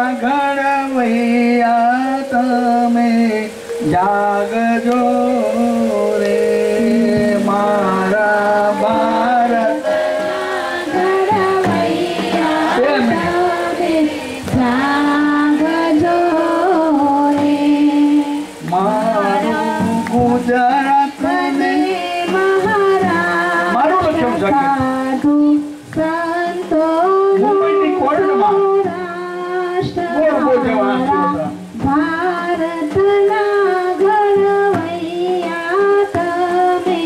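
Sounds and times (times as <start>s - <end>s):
man singing into microphone: 0.0s - 37.0s.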